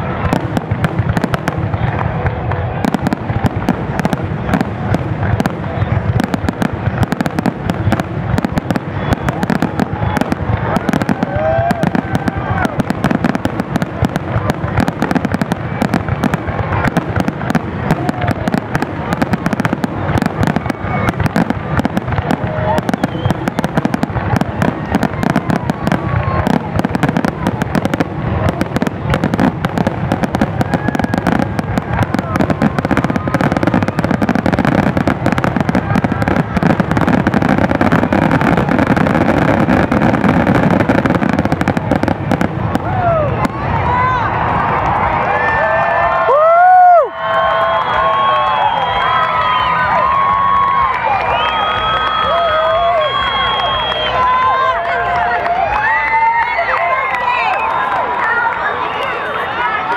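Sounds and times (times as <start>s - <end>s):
fireworks bangs: 0.0s - 56.5s.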